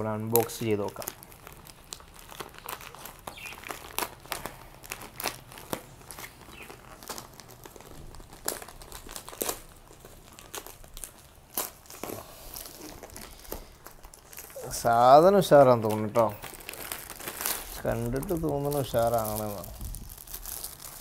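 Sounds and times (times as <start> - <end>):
paper mailer tearing and crinkling: 0.0 - 21.0.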